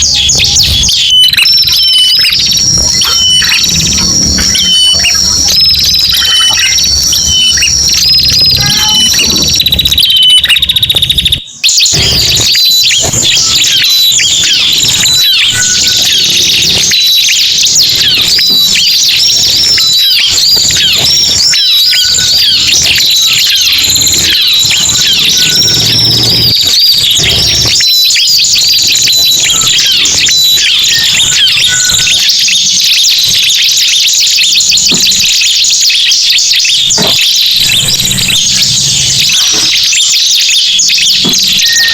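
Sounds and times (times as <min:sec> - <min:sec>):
bird chirps and trills: 0:00.0 - 0:41.9.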